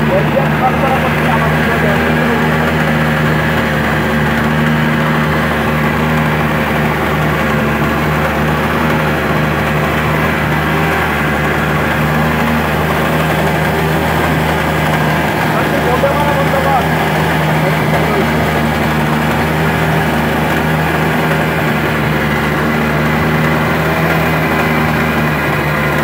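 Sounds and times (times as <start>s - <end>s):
speed boat engine running: 0.0s - 26.0s.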